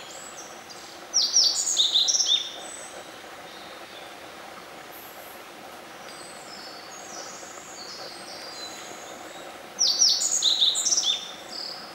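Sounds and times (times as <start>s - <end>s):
background hiss: 0.0s - 11.9s.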